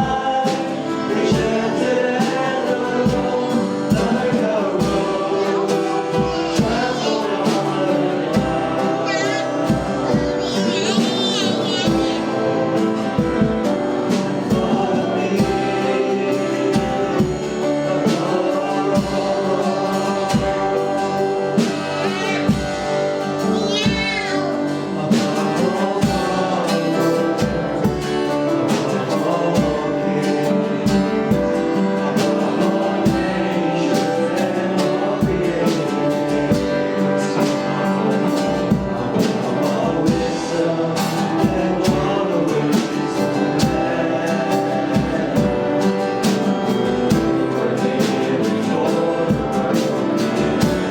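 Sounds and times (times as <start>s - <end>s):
band playing: 0.0s - 50.9s
voices singing: 0.0s - 50.9s.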